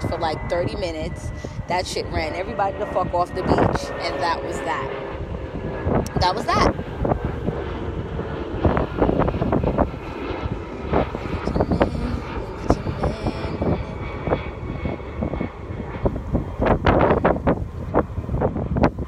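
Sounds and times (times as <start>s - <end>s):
steady low drone: 0.0s - 19.0s
wind buffeting microphone: 0.0s - 19.0s.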